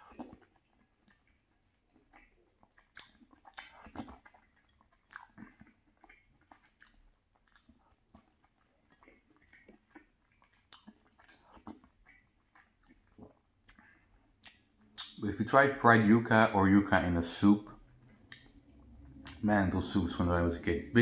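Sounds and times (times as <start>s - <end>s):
chewing and lip smacks: 0.0s - 21.0s.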